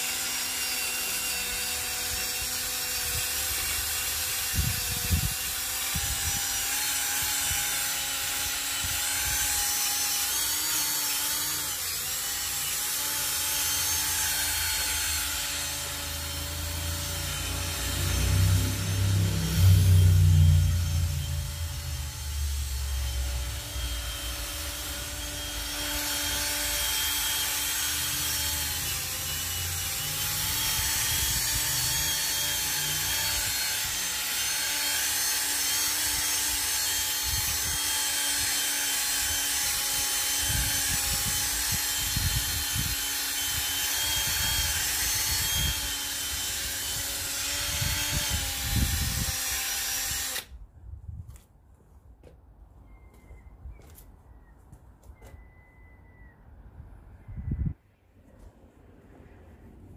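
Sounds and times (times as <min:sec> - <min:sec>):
cordless drill motor whine: 0:00.0 - 0:50.5.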